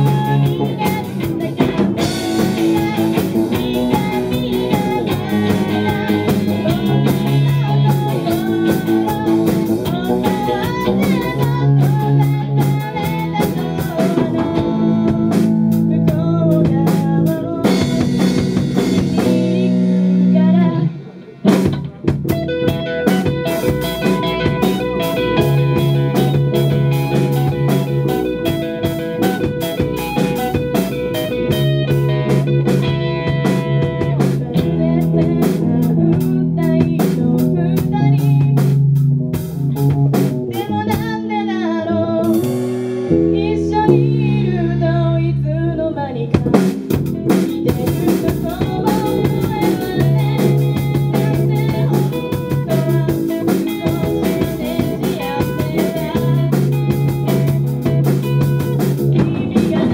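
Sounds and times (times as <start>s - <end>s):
girl singing: 0.0s - 22.0s, 22.6s - 38.8s, 40.5s - 59.9s
drum kit: 0.0s - 59.9s
electric guitar: 0.0s - 59.9s.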